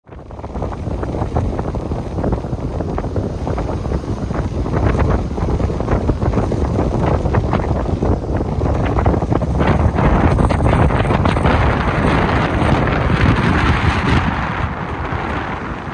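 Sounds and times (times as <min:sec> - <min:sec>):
wind buffeting microphone: 0:00.0 - 0:15.9
waves breaking on shore: 0:00.1 - 0:15.9.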